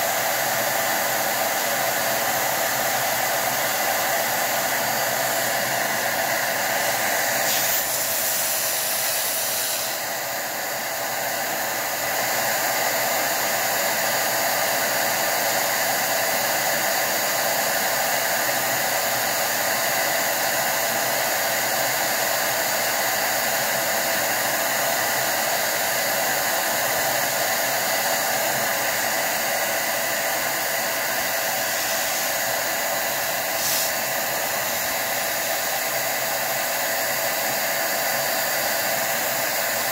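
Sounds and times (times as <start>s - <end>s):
electric duster blowing air: 0.0s - 39.9s.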